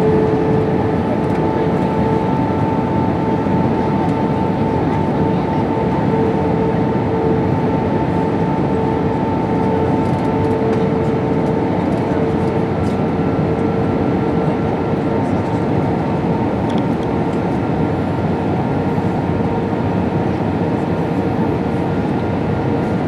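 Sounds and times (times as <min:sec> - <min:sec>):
jet engines droning and whining: 0:00.0 - 0:23.0
rushing airflow in aircraft cabin: 0:00.0 - 0:23.0.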